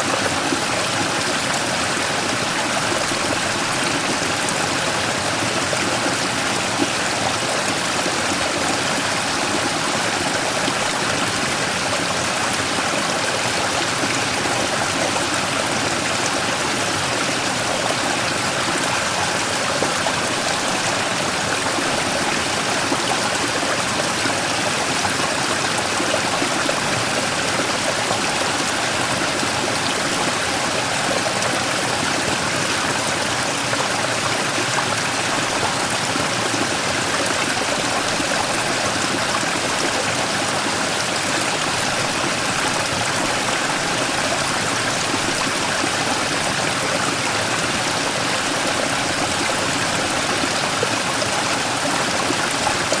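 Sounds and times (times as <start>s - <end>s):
stream rushing over rock: 0.0s - 53.0s.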